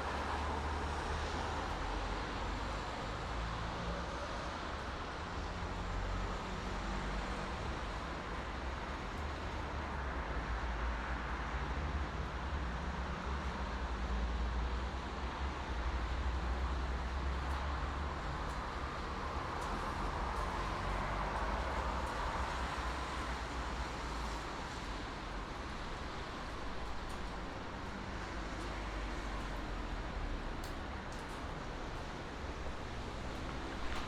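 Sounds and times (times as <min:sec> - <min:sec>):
highway traffic rumble: 0:00.0 - 0:34.0.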